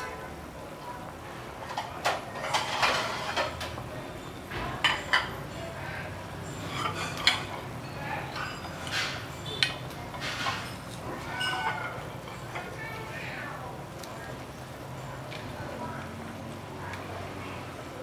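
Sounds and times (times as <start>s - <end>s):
soup bubbling in a pot: 0.0s - 18.0s.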